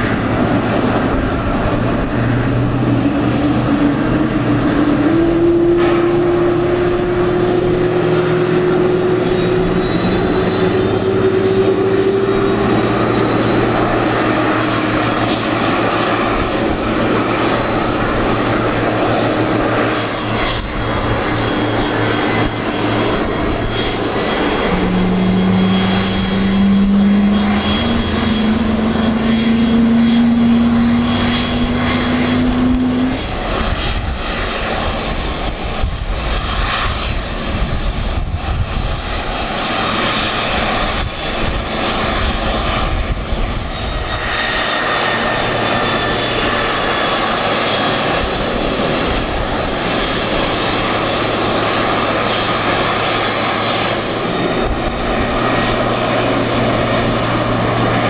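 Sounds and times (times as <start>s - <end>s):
high whine: 0.0s - 58.0s
jet engines running: 0.0s - 58.0s
low hum rising in pitch: 0.0s - 58.0s.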